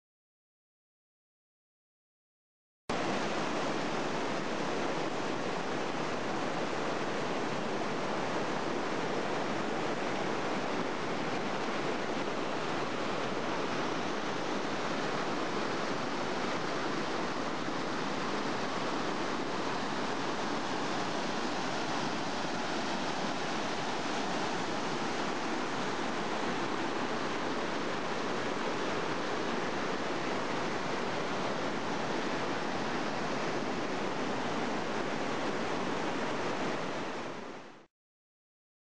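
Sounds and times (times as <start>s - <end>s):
whitewater rushing: 2.9s - 37.8s.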